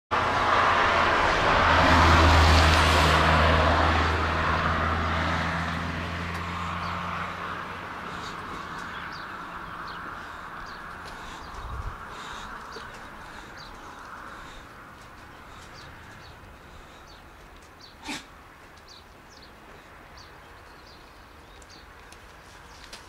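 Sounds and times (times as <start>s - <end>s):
motor vehicle passing: 0.1s - 23.0s.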